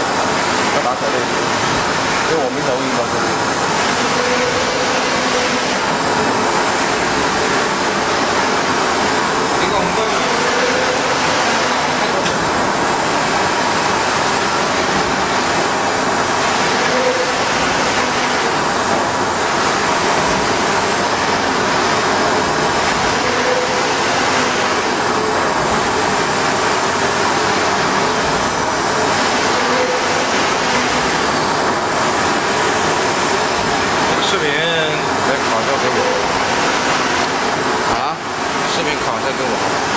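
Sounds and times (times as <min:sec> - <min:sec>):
printer hiss and whir: 0:00.0 - 0:39.9.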